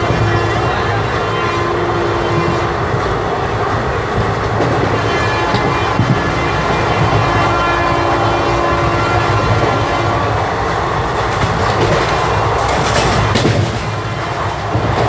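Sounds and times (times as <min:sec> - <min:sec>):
locomotive horn chord: 0:00.0 - 0:15.0
train wheels clattering on track: 0:00.0 - 0:15.0.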